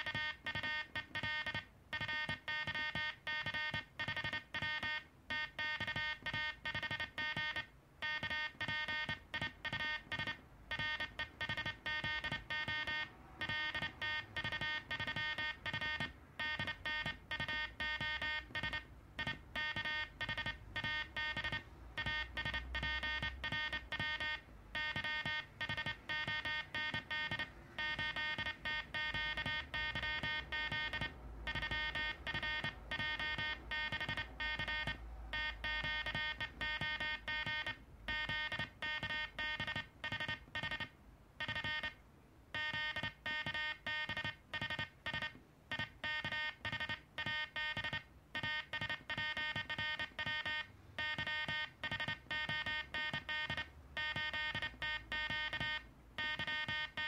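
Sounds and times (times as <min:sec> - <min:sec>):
morse code sidetone buzzing: 0:00.0 - 0:42.0, 0:42.6 - 0:57.0.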